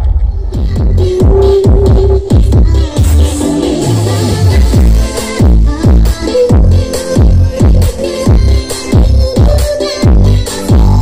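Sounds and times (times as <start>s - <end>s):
deep bass kicks: 0.0s - 3.4s, 4.5s - 11.0s
electronic dance music: 0.0s - 11.0s
repeating synth line: 0.8s - 10.4s.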